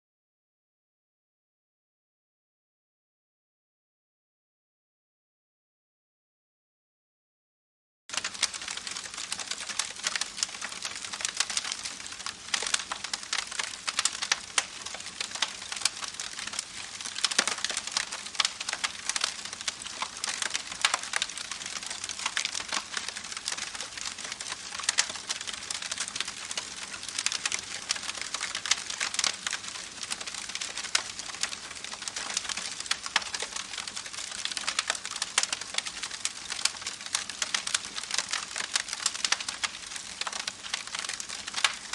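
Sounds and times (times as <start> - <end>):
campfire crackling: 8.1 - 41.9.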